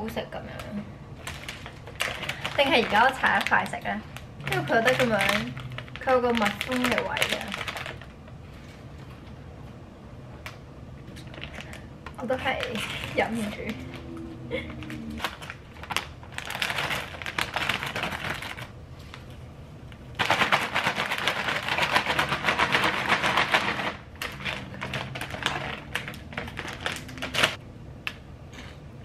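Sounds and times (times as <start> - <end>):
chip bag crinkling: 0.6 - 8.4, 11.1 - 27.6.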